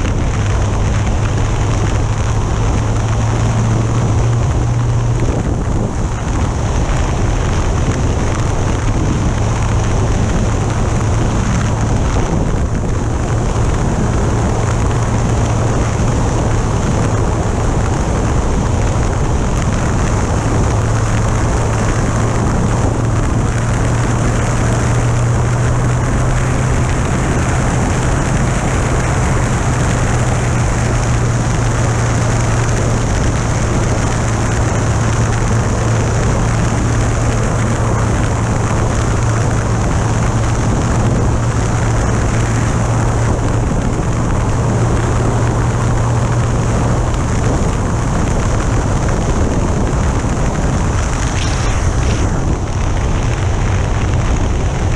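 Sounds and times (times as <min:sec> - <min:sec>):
motorcycle engine humming: 0:00.0 - 0:54.9
wind and road rush: 0:00.0 - 0:54.9.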